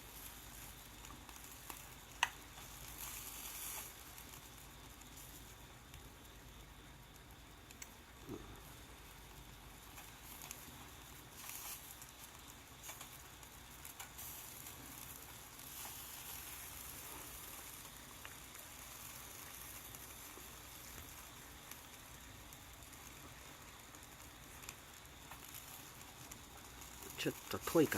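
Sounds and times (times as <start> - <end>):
charcoal crackles and pops: 0.0 - 27.9
meat sizzling on a grill: 0.0 - 27.9.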